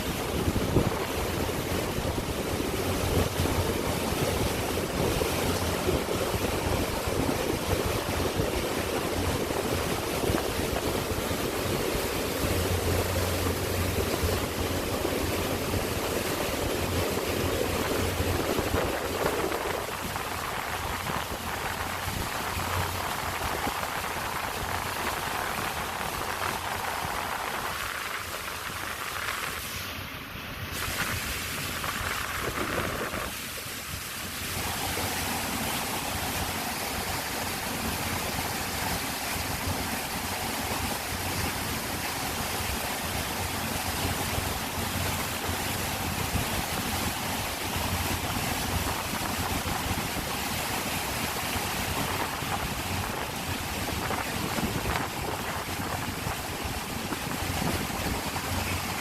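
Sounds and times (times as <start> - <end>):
boat engine humming: 0.0 - 59.0
water rushing: 0.0 - 59.0
wind: 0.0 - 59.0.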